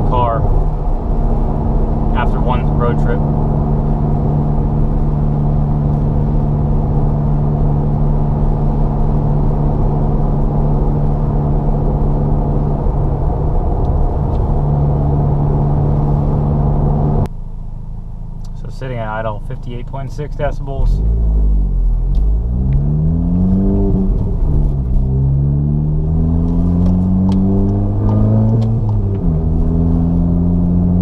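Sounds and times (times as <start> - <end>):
car engine and exhaust drone: 0.0 - 31.0
road and tyre noise: 0.0 - 31.0.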